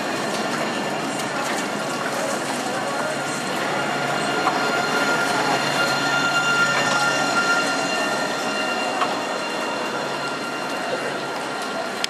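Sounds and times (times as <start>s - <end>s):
high whine: 0.0s - 12.0s
tram wheels rumbling on rails: 0.0s - 12.0s.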